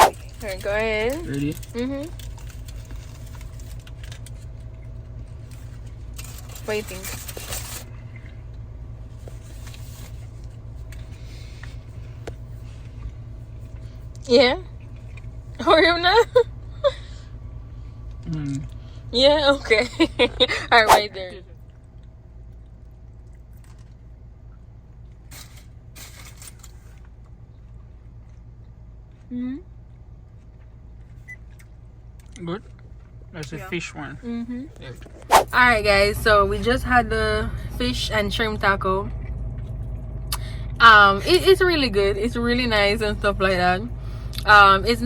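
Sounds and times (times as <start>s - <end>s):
car engine idling: 0.0s - 25.2s, 30.2s - 45.0s
low background hum: 0.0s - 45.0s.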